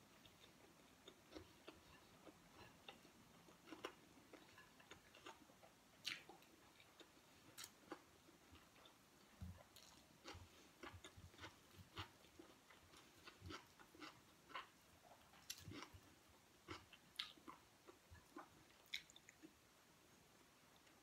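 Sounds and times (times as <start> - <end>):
person chewing food: 0.1 - 19.6.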